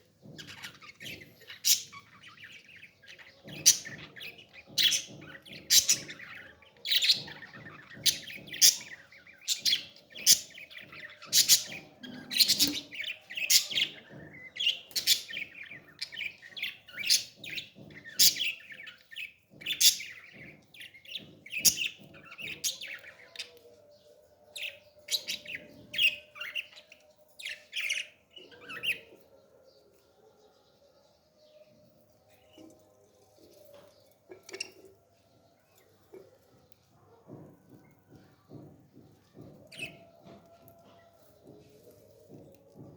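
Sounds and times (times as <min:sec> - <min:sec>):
parrot chicks chirping: 0:00.0 - 0:30.8, 0:31.4 - 0:42.9.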